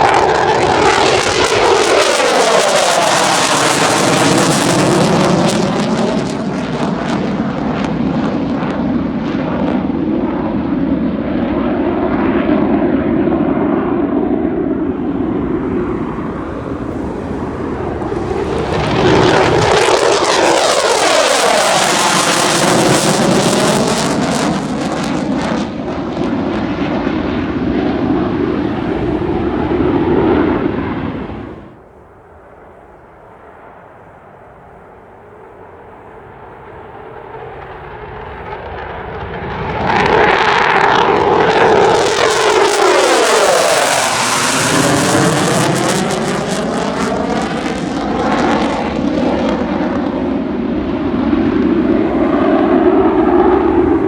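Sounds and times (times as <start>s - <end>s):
fighter jets taking off: 0.0s - 54.0s
jet sweeping past: 0.0s - 54.0s.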